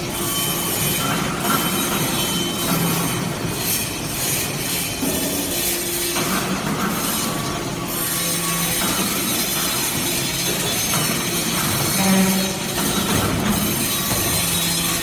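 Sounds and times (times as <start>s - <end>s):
hydraulic press machine noise: 0.0s - 15.0s.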